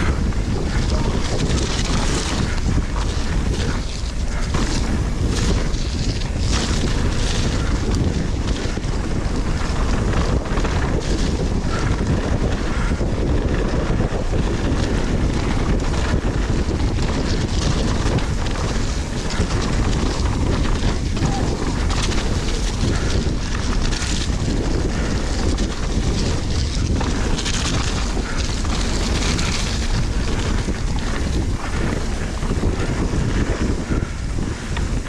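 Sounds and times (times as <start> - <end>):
bike clattering over bumps: 0.0 - 35.0
wind rushing over microphone: 0.0 - 35.0.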